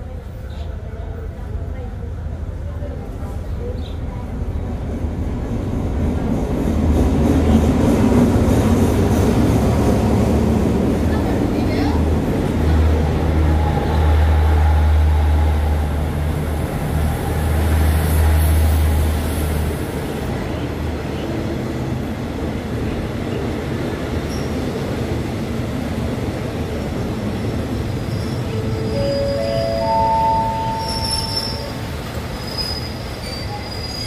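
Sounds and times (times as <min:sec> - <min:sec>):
train coaches rumbling past: 0:00.0 - 0:34.0
diesel train engine drone: 0:01.1 - 0:33.8.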